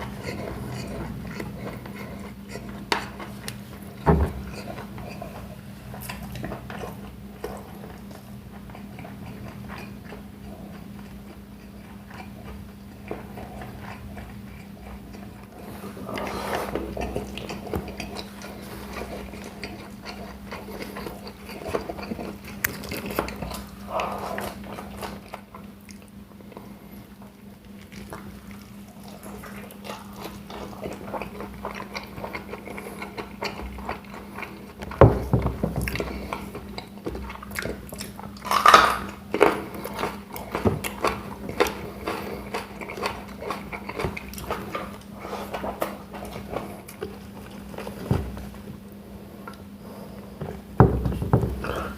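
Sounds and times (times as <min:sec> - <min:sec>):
biting and chewing food: 0:00.0 - 0:50.8
steady low hum: 0:00.0 - 0:51.9.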